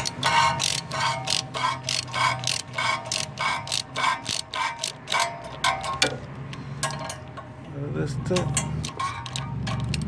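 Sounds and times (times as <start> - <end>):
socket ratchet clicking: 0.0 - 7.5, 8.4 - 10.0.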